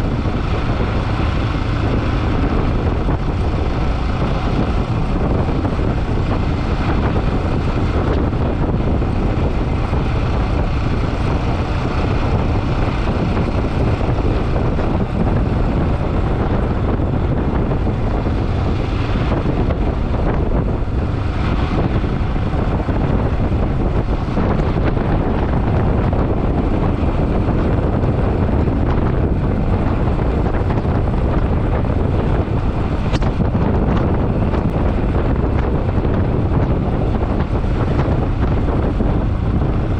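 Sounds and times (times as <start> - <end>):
motorcycle riding: 0.0 - 39.9
wind on microphone: 0.0 - 39.9.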